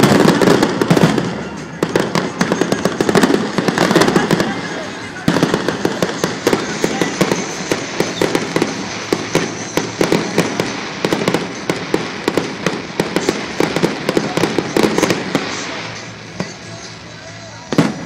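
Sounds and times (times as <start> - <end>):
crackling rumble: 0.0 - 17.1
firework shells bursting: 0.0 - 18.0.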